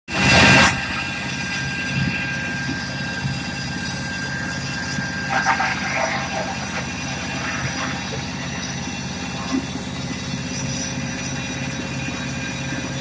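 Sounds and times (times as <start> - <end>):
wood chipper engine running: 0.1 - 13.0
wood chipper whine: 0.1 - 13.0.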